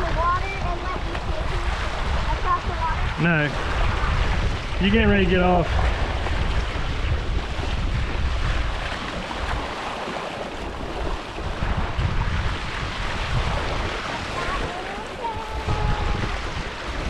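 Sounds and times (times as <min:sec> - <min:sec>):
water lapping and splashing: 0:00.0 - 0:17.0
wind buffeting microphone: 0:00.0 - 0:17.0.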